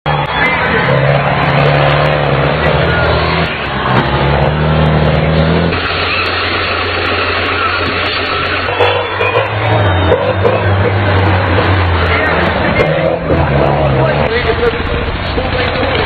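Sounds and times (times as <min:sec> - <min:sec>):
tractor engines revving: 0:00.1 - 0:16.0.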